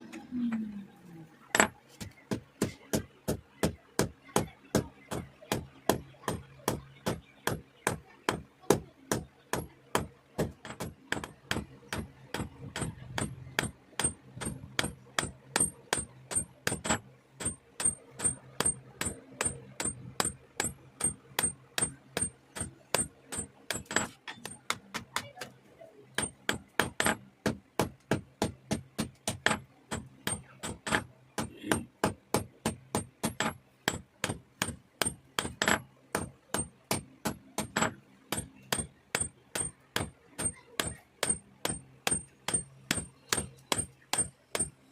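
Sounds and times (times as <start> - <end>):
hammer striking metal: 5.5 - 25.3, 26.2 - 44.8.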